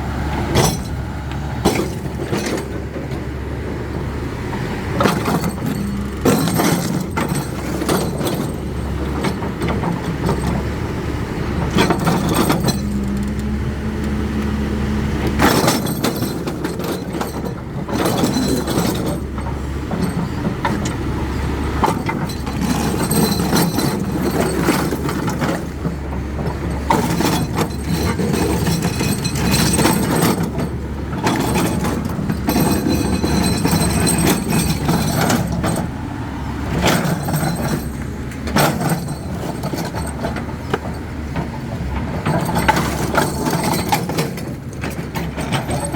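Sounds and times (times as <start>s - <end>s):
excavator engine under load: 0.0s - 45.9s.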